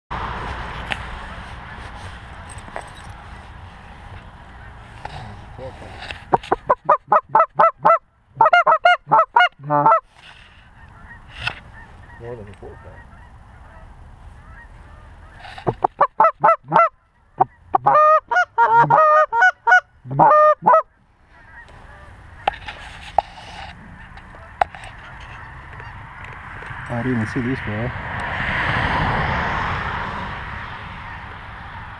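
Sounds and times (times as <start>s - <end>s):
goose honking and clucking: 1.1s - 26.8s, 30.6s - 31.9s.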